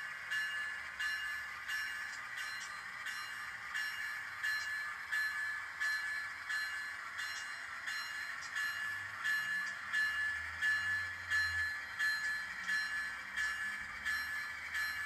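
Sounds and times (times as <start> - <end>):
faint locomotive hum: 0.0 - 15.0
model railroad bell ringing: 0.0 - 15.0.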